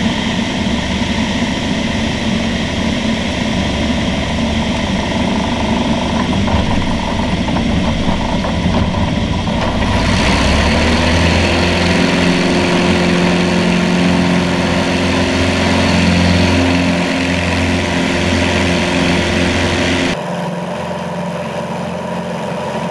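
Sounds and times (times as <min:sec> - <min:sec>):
light aircraft engine droning: 0:00.0 - 0:22.9
wind rush: 0:00.1 - 0:20.2.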